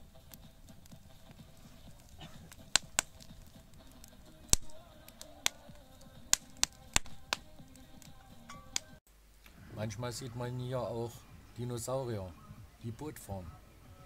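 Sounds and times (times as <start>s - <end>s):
fire crackling and popping: 0.0s - 13.4s.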